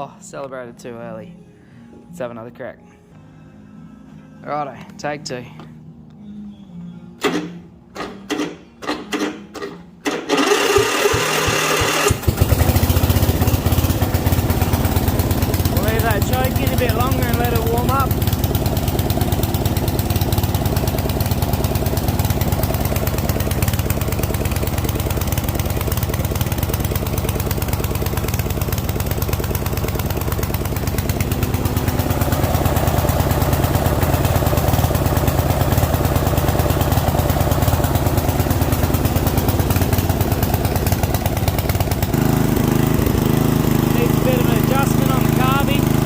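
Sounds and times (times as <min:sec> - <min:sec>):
ride-on mower engine running: 0:07.2 - 0:46.0.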